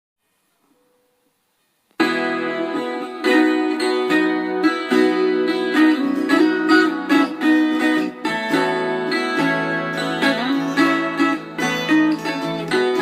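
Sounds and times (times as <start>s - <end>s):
plucked string melody: 1.9s - 13.0s.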